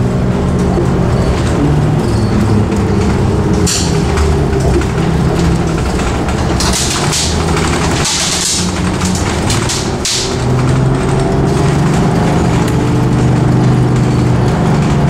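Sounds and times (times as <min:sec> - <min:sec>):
coach engine drone: 0:00.0 - 0:15.0.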